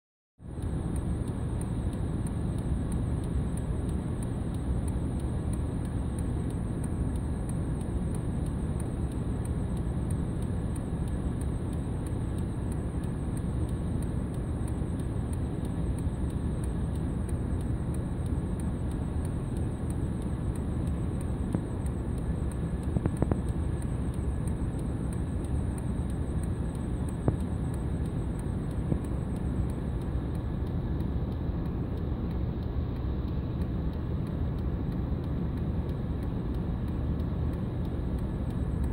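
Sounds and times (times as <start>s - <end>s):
faint ticks: 0.4s - 38.9s
low outdoor rumble: 0.4s - 38.9s.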